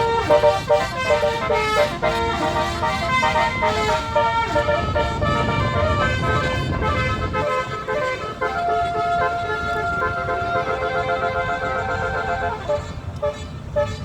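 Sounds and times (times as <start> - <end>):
low vehicle rumble: 0.0 - 14.0
musical bus horns playing a tune: 0.0 - 14.0.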